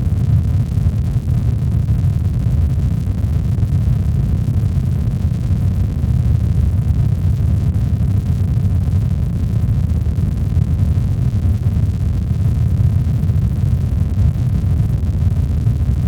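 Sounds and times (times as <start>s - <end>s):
deep rumbling brown noise: 0.0s - 16.0s.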